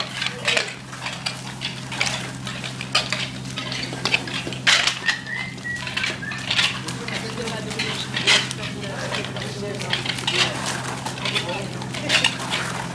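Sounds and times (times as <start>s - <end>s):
metal tools clinking and scraping: 0.0s - 12.9s
steady low hum: 0.0s - 12.9s.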